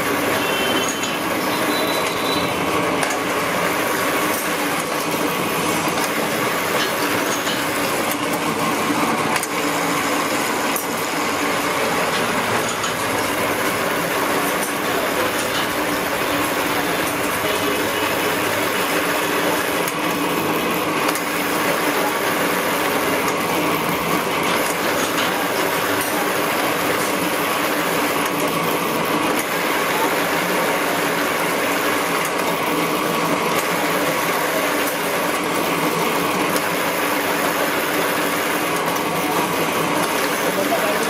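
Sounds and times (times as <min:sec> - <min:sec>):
nut-tapping machine running: 0:00.0 - 0:41.0.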